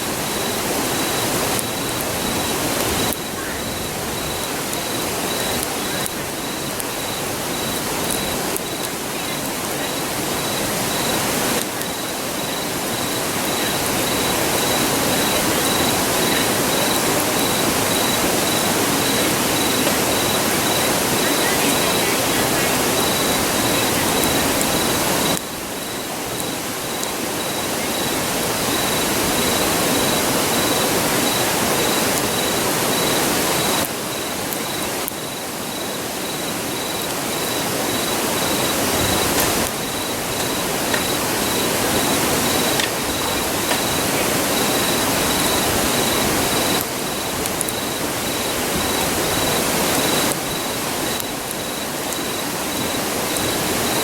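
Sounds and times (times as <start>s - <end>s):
insect trilling: 0.0s - 54.0s
river rushing: 0.0s - 54.0s.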